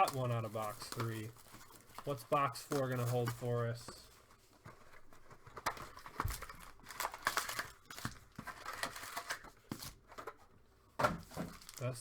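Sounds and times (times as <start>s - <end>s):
plastic wrap crinkling and tearing: 0.0s - 3.8s, 4.8s - 10.1s, 11.2s - 12.0s.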